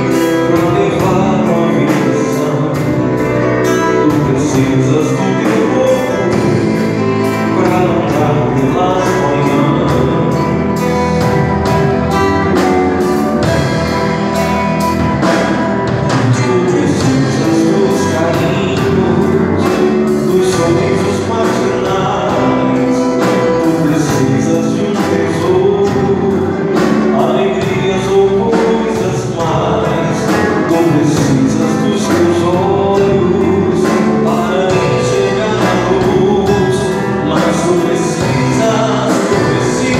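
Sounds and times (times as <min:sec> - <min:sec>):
drum kit beat: 0:00.0 - 0:39.9
live band playing gospel song: 0:00.0 - 0:39.9.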